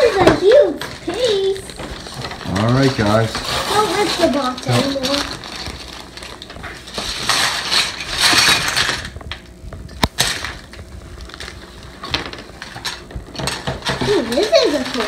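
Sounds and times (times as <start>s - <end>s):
plastic and cardboard rustling: 0.0s - 15.0s.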